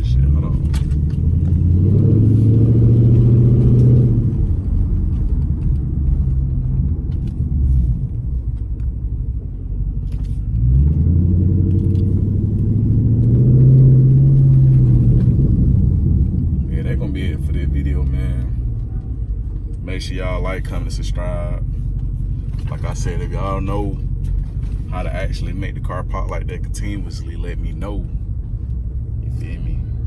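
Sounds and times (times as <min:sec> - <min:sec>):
car engine revving: 0:00.0 - 0:30.0
exhaust crackles: 0:00.0 - 0:30.0.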